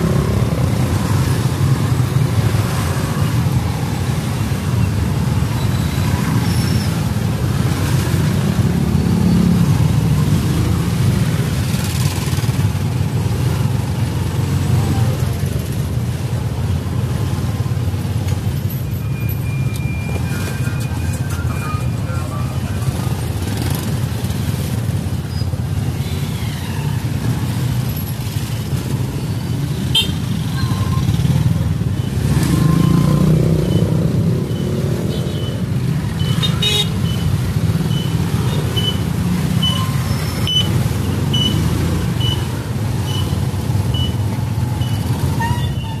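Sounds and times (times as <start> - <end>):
motorcycle engines rumbling: 0.0 - 46.0.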